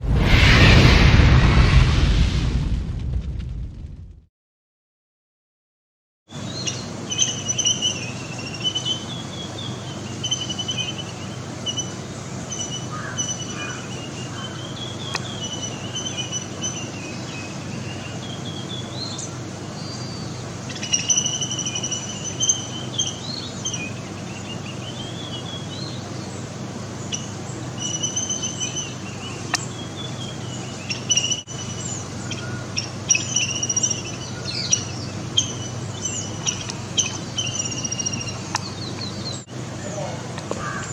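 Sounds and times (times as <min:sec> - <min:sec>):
low background hum: 0:06.4 - 0:40.9
small birds chirping: 0:06.4 - 0:40.9.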